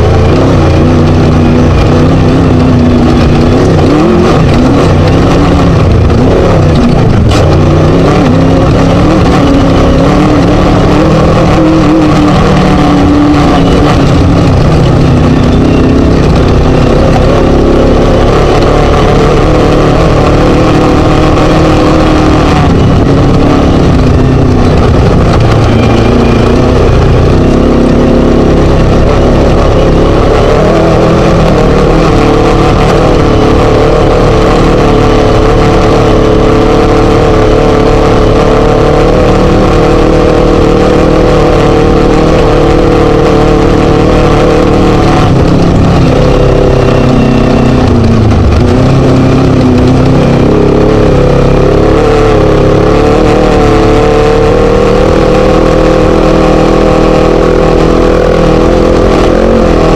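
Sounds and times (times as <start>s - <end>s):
buggy engine running hard: 0.0s - 59.9s.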